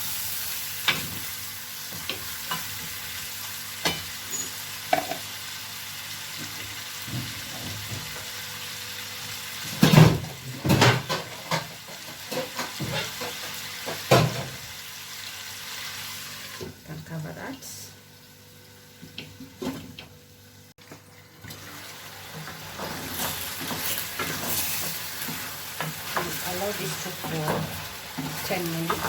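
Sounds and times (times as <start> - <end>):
chicken sizzling in hot oil: 0.0 - 16.7, 21.4 - 29.0.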